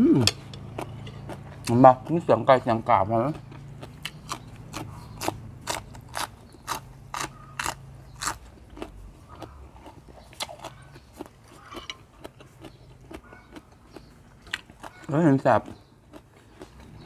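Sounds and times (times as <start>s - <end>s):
crunching and chewing green pod: 0.1s - 17.0s.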